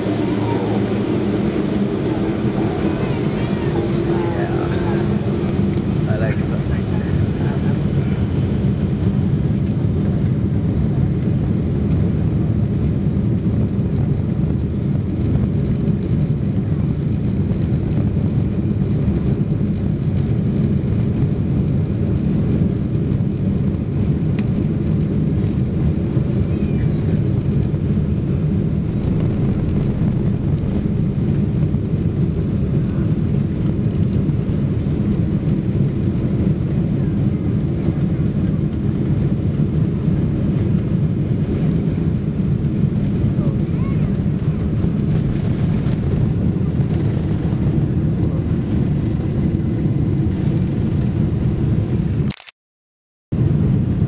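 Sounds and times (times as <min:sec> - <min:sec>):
jet engines low rumble: 0:00.0 - 0:52.5, 0:53.3 - 0:54.0.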